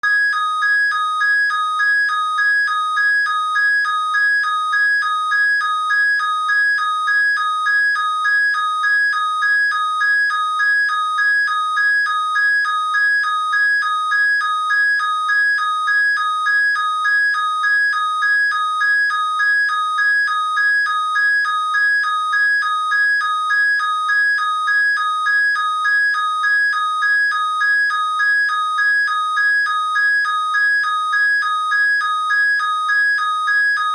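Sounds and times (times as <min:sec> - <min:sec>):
alarm clock alternating tones: 0:00.0 - 0:33.9.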